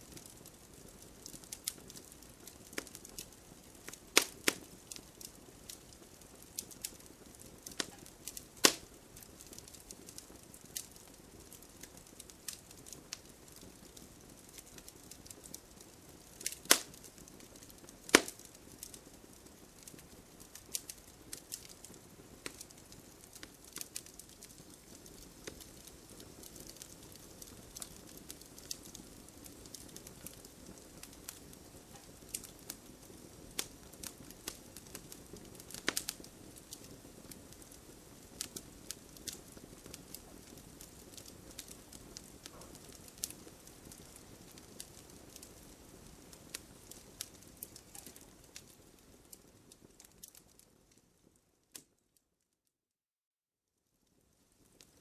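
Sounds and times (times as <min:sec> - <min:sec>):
wood fire crackling and popping: 0:00.0 - 0:52.2, 0:54.0 - 0:55.0.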